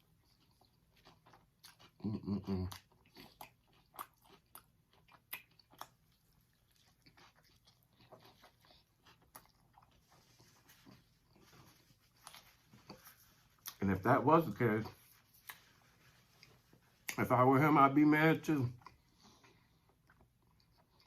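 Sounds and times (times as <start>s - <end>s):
person chewing food: 0.0s - 17.2s, 18.8s - 21.0s.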